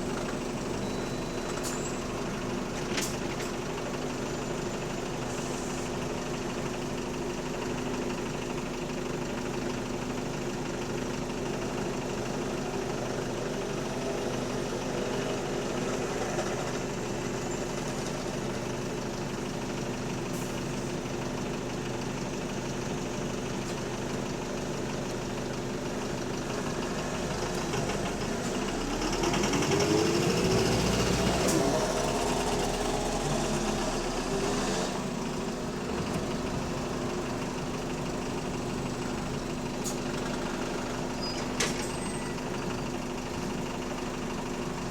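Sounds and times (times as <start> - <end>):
diesel engine idling with knocking: 0.0 - 44.9.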